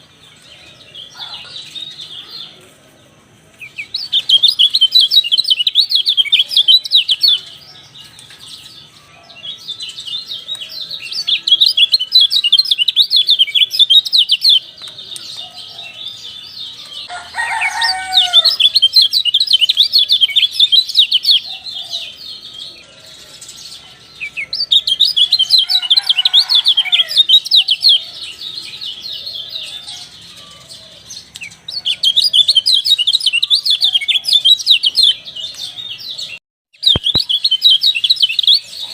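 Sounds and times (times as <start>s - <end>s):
songbird chattering chirps: 3.6s - 22.5s, 23.4s - 30.6s, 31.2s - 38.9s.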